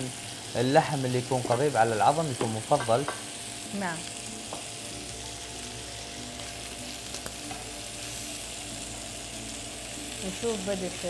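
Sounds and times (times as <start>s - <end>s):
ribs sizzling in a pan: 0.0s - 11.0s.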